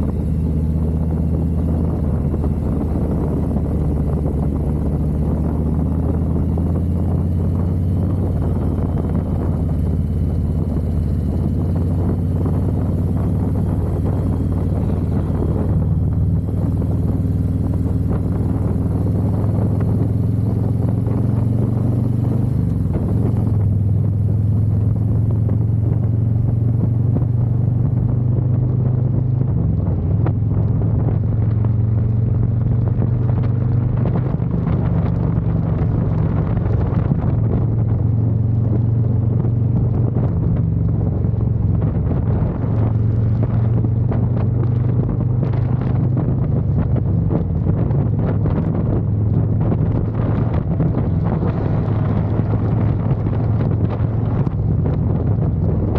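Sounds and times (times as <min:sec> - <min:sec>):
motorcycle engine droning: 0:00.0 - 0:55.9.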